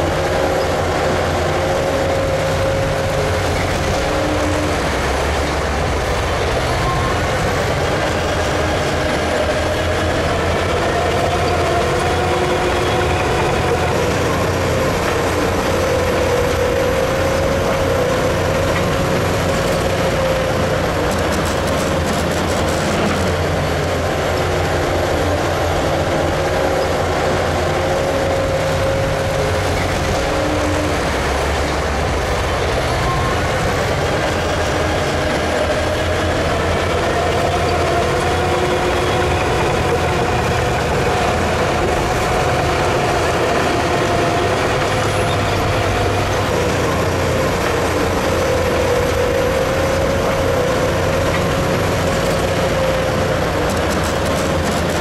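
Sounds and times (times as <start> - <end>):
diesel truck engine with whine: 0.0 - 55.0.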